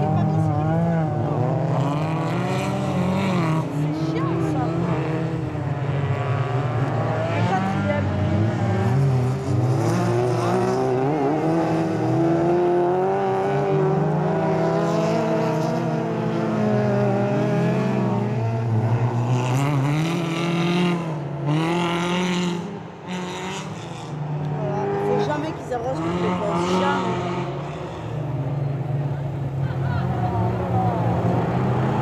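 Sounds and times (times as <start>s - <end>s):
race car engines revving: 0.0s - 32.0s.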